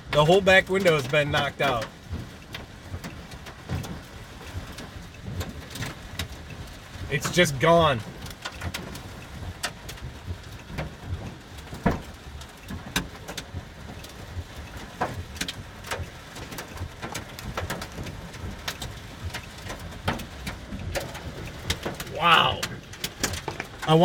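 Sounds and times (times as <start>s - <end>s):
hailstones knocking on car body: 0.0s - 7.4s, 8.0s - 22.1s, 22.7s - 24.0s
heavy rain rushing: 0.0s - 24.0s.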